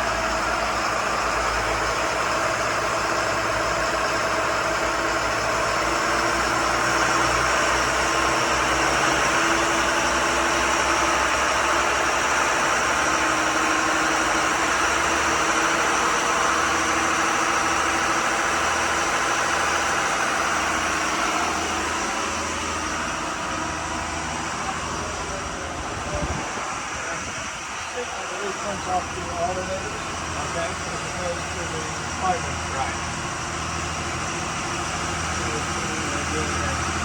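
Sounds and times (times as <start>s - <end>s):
boat diesel engines running: 0.0s - 37.0s.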